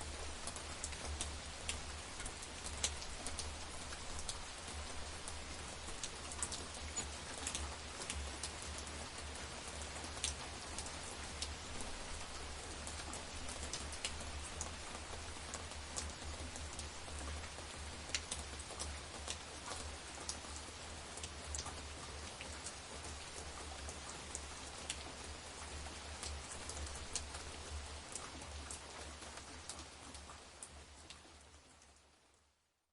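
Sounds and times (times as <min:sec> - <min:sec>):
raindrops ticking on surfaces: 0:00.0 - 0:32.9.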